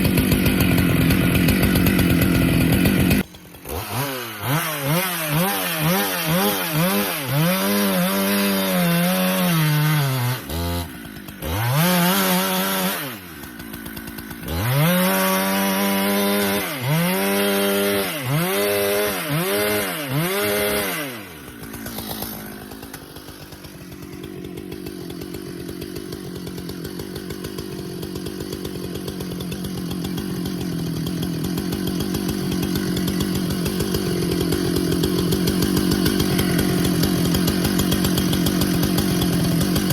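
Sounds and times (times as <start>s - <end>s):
chainsaw cutting wood: 0.0s - 39.9s
chainsaw idling: 0.0s - 39.9s.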